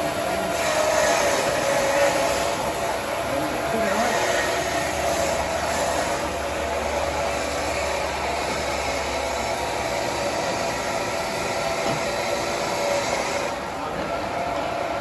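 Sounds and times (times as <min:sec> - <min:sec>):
band sawmill running: 0:00.0 - 0:15.0.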